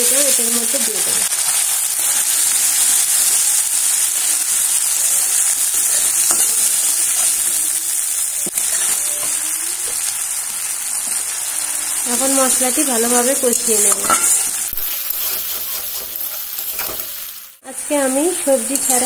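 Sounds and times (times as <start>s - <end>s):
paste sizzling in hot oil: 0.0s - 19.0s.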